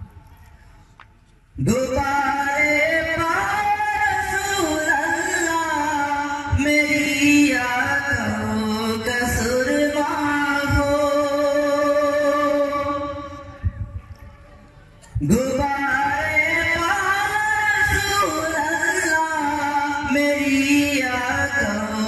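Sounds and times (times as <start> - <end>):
man singing devotional song: 1.6 - 13.9, 15.1 - 22.0.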